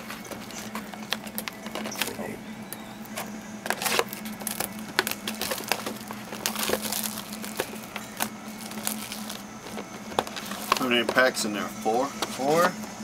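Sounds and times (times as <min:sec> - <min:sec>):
wrapping and cardboard crinkling: 0:00.0 - 0:11.5.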